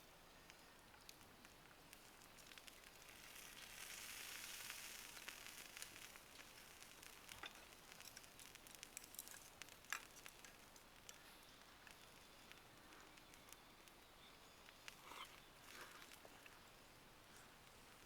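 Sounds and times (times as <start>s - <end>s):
wood fire crackling and popping: 0.1s - 18.0s
fire hissing: 1.9s - 18.0s.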